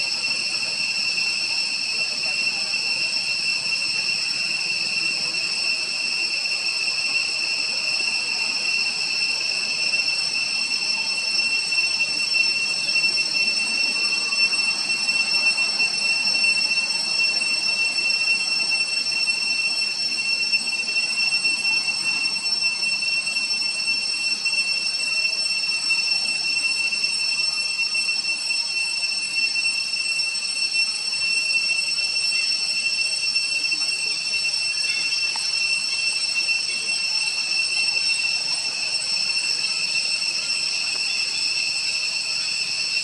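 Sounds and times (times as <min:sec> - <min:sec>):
cicada chorus droning: 0:00.0 - 0:43.0.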